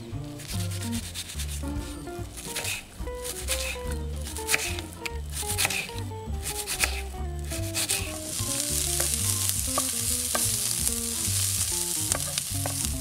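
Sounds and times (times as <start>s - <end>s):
background music: 0.0s - 13.0s
onion sizzling in a pan: 0.2s - 13.0s
wooden spatula scraping pan: 0.4s - 13.0s.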